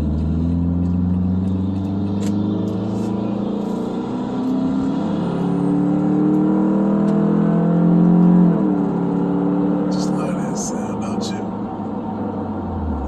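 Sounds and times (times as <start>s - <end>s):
diesel truck engine accelerating: 0.0s - 13.0s.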